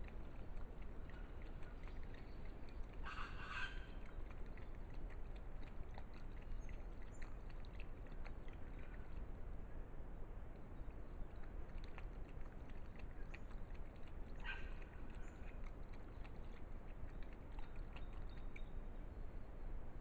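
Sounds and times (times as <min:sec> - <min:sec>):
dog lapping water: 0:00.0 - 0:09.5, 0:10.4 - 0:19.0
low steady rumble: 0:00.0 - 0:20.0.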